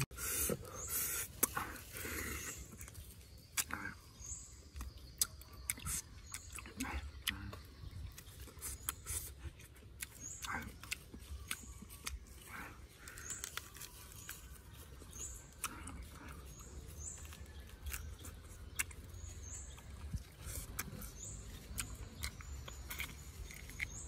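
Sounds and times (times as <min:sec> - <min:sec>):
bird chirps: 0:00.0 - 0:24.0
chewing and biting ribs: 0:00.0 - 0:24.0.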